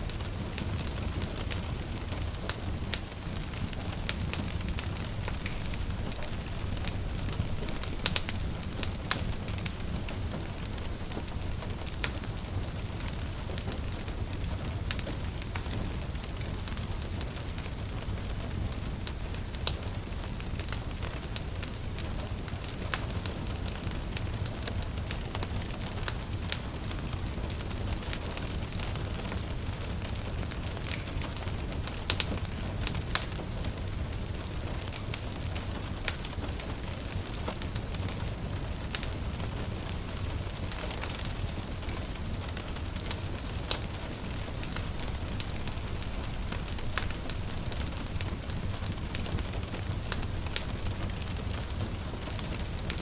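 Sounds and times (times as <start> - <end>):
rain pattering: 0.0 - 53.0
wood fire crackling and popping: 0.0 - 53.0.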